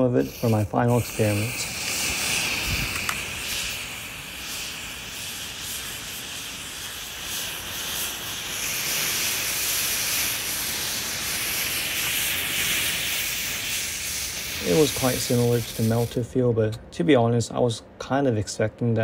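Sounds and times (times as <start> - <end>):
rocket fuel burning with hiss: 0.0 - 16.4.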